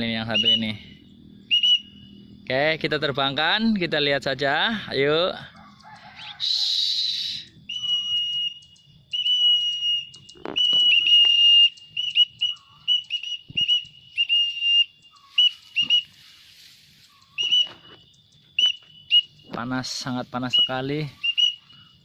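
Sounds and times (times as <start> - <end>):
high whistle notes: 0.2 - 2.4, 6.2 - 22.0.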